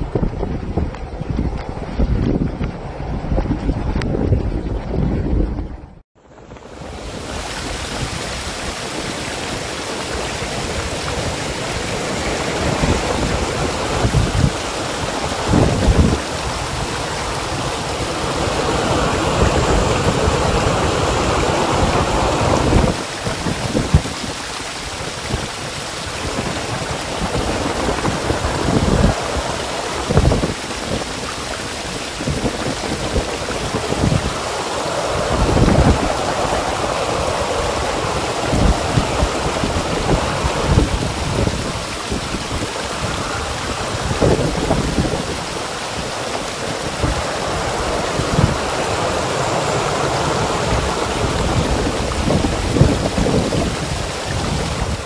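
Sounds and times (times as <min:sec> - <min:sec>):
flood water rushing: 0:00.0 - 0:55.0
wind buffeting microphone: 0:00.0 - 0:55.0.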